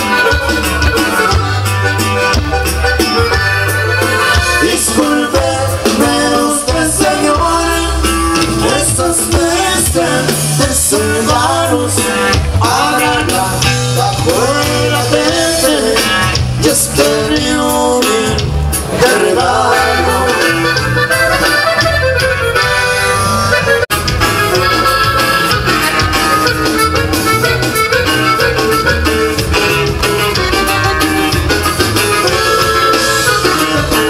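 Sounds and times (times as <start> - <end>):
accordion dance band music: 0.0 - 34.0.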